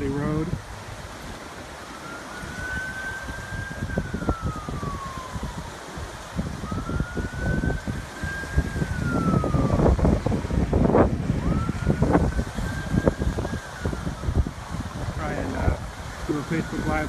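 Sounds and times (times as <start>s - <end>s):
emergency siren wailing: 0.0s - 17.0s.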